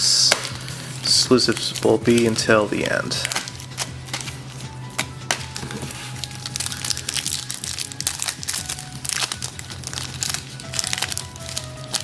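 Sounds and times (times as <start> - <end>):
foil wrappers crinkling and tearing: 0.0 - 12.0.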